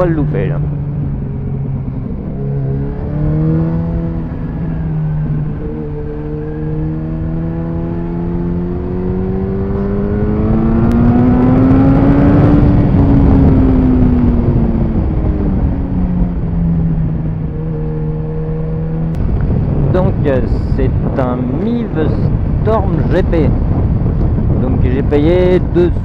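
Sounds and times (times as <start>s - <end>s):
motorcycle engine revving: 0.0s - 25.9s
wind noise: 0.0s - 26.0s.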